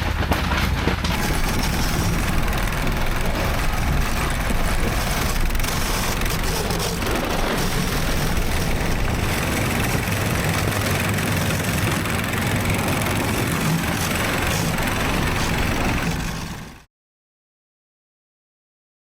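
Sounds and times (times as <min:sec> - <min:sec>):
tracked sled engine idling: 0:00.0 - 0:16.9.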